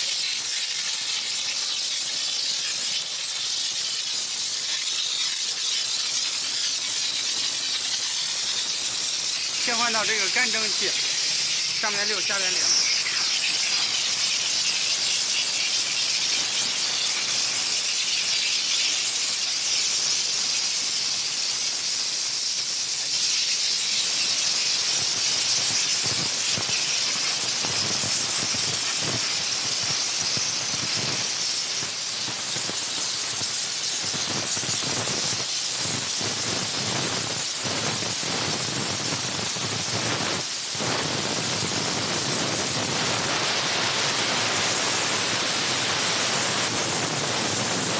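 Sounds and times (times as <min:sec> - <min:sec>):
steam jet hissing: 0:00.0 - 0:47.9.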